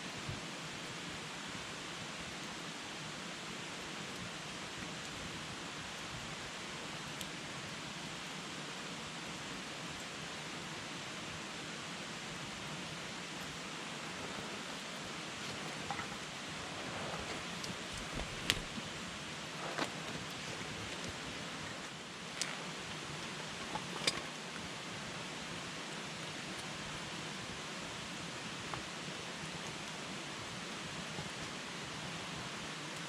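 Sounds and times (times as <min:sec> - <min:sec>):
campfire hiss: 0:00.0 - 0:33.0
fire crackles: 0:00.1 - 0:33.0.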